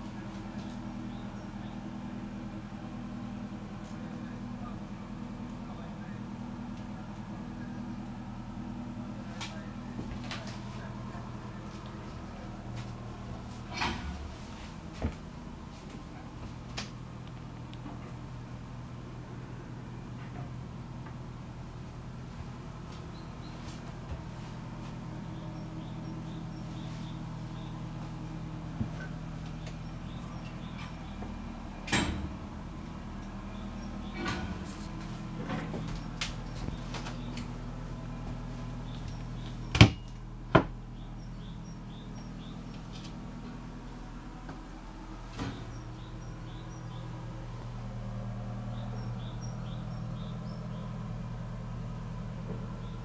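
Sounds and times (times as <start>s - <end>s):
boat engines idling: 0.0s - 53.0s
steady low hum: 0.0s - 53.0s.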